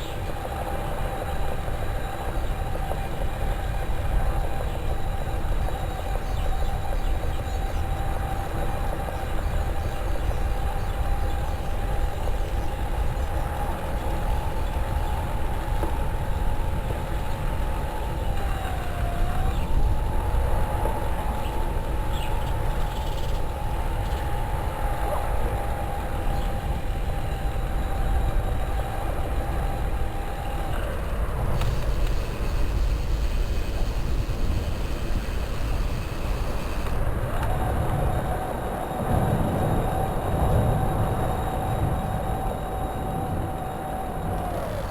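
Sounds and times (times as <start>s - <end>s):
electric bike motor whining: 0.0s - 44.9s
heavy wind: 0.0s - 44.9s
road rumble: 0.0s - 44.9s.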